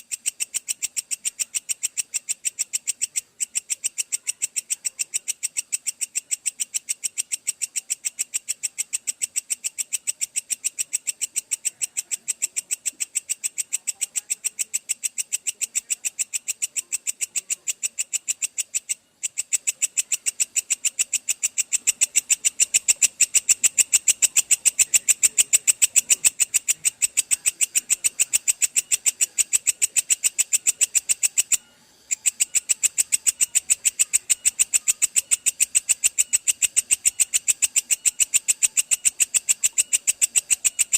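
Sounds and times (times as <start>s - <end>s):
katydid clicking call: 0.0s - 40.9s.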